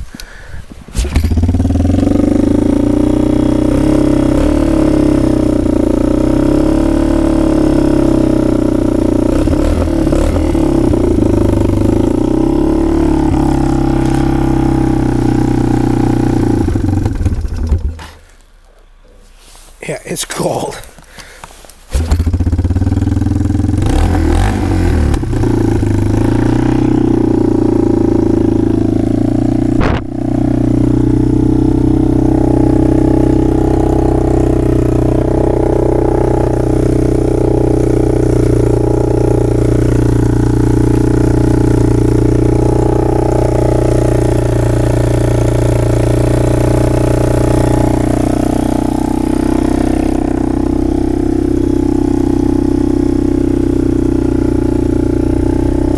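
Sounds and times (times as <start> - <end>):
atv engine running: 0.2 - 18.9, 21.4 - 55.9.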